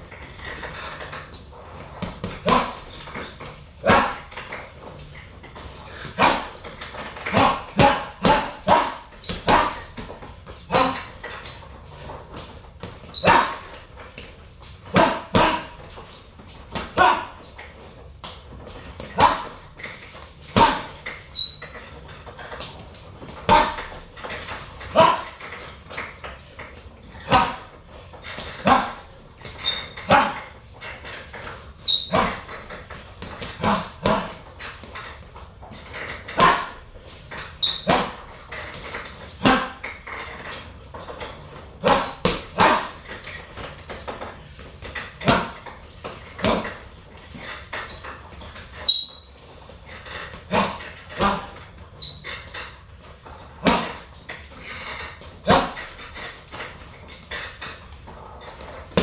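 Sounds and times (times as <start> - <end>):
boxing gloves punching heavy bag: 0.1 - 59.0.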